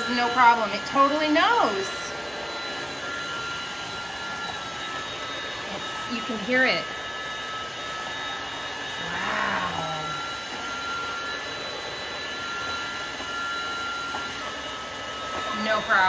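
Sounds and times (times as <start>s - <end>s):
floor vacuum motor whine: 0.0s - 16.0s.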